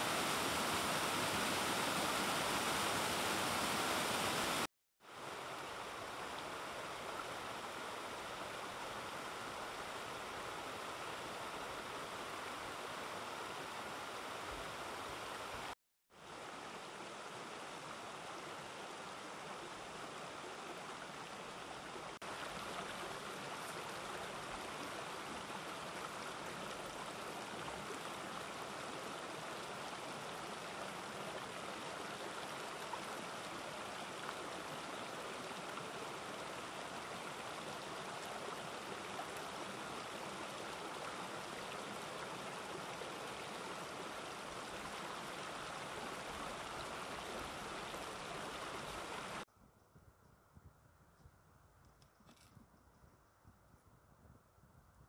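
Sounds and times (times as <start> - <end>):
running water: 0.0 - 49.4.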